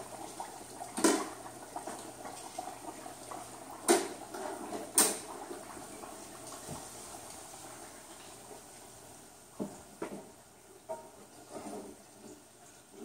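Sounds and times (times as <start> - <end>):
hot oil bubbling and crackling: 0.0 - 13.0.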